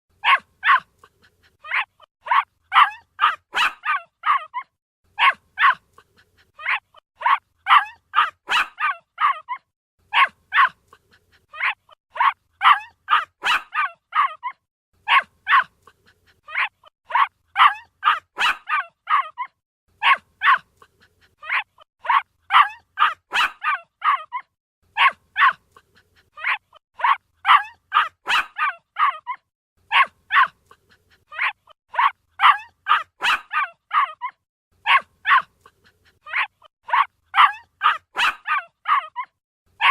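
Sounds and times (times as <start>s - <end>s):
puppy barking and yipping: 0.2s - 39.9s.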